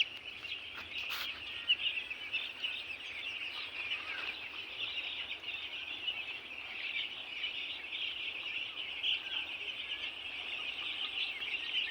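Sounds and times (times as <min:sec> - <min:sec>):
flock of chickens calling: 0:00.0 - 0:11.9.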